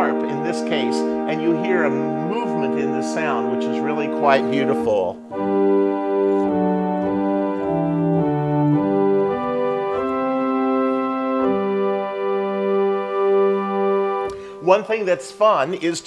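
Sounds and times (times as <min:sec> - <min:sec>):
organ playing sustained chords: 0:00.0 - 0:15.8.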